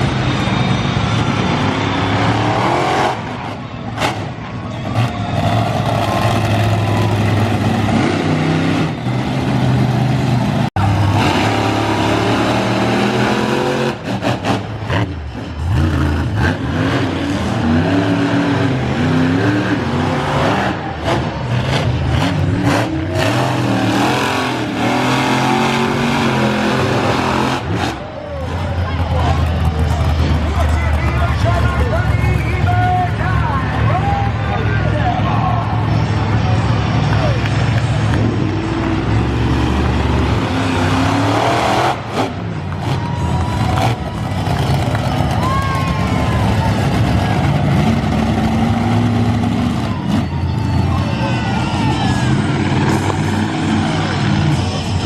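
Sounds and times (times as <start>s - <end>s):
monster truck engines revving: 0.0s - 55.0s.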